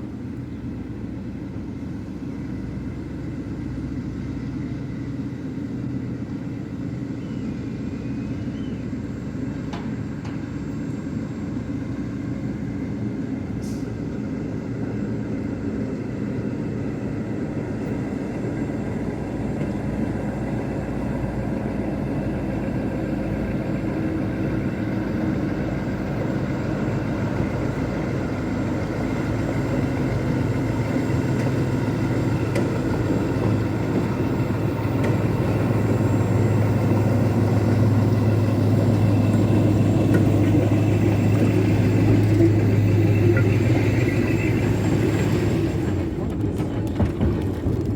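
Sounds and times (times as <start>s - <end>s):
diesel locomotive engine running: 0.0s - 47.9s.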